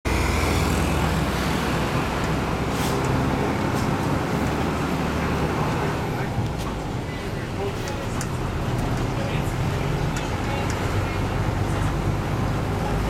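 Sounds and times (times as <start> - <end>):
bus engine drone: 0.0 - 13.0
road noise: 0.0 - 13.0.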